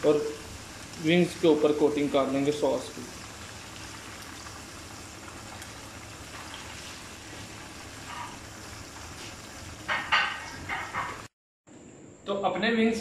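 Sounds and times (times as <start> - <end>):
hot oil sizzling and bubbling: 0.0 - 11.4.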